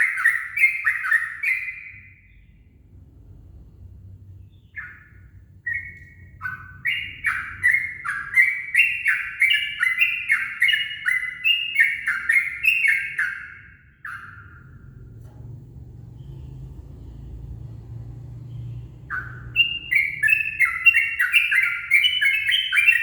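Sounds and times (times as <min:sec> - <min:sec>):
bulbul singing: 0:00.0 - 0:02.7, 0:04.4 - 0:23.0.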